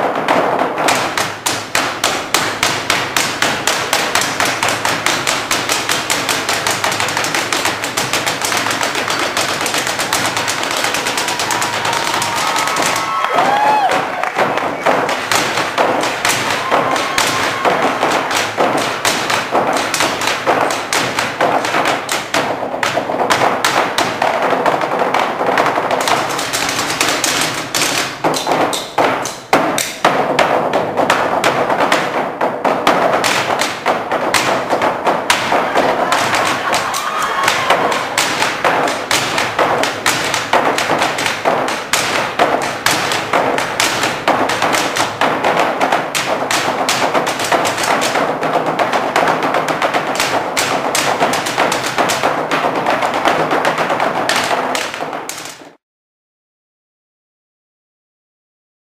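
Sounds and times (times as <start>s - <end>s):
drumsticks beating on wooden tables: 0.0s - 55.8s.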